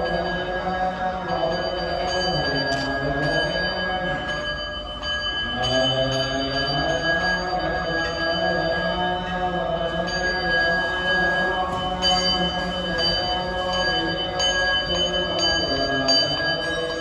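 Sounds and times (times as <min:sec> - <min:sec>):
high ringing tones: 0:00.0 - 0:17.0.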